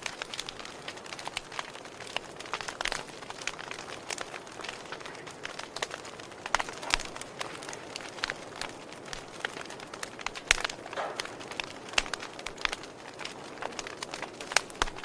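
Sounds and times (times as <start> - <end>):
fire crackling and popping: 0.0 - 15.0
soft steady hiss: 0.0 - 15.0.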